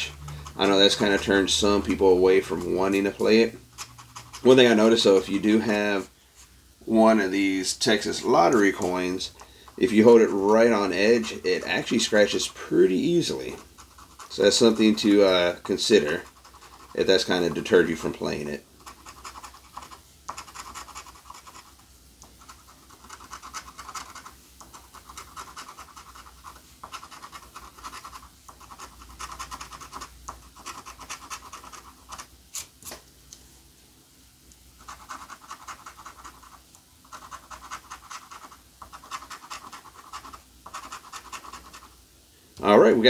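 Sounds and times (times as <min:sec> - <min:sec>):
coin scratching lottery ticket: 0:00.0 - 0:05.5, 0:07.9 - 0:18.0, 0:18.8 - 0:32.3, 0:34.8 - 0:42.0.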